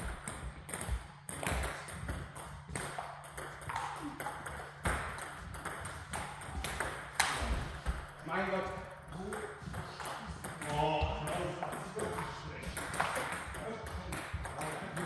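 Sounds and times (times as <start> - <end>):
table tennis balls clicking: 0.0 - 8.3, 9.1 - 15.0.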